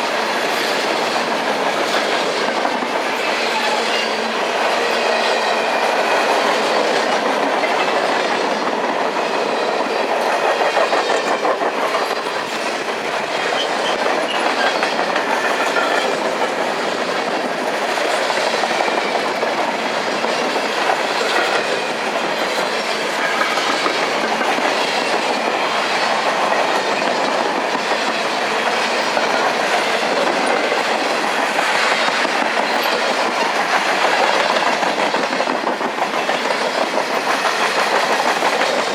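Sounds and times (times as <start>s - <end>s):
freight train cars rolling: 0.0s - 38.9s
wheels clicking over rail joints: 6.3s - 38.9s.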